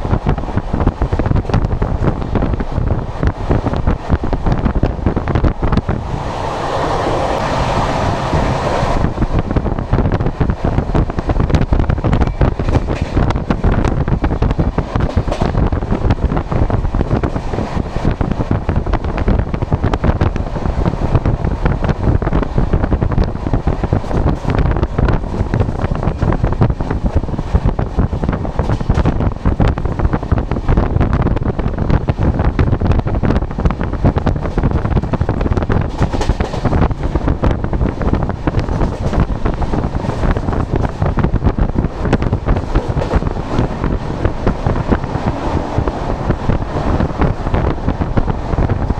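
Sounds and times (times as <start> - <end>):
train wheels rumbling on rails: 0.0 - 48.9
wind buffeting microphone: 0.0 - 48.9.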